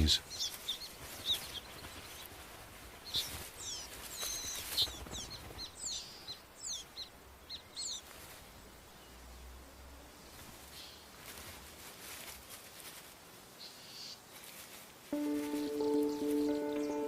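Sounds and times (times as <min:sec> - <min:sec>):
small songbirds chirping: 0:00.0 - 0:02.4, 0:03.0 - 0:11.2, 0:13.6 - 0:17.0.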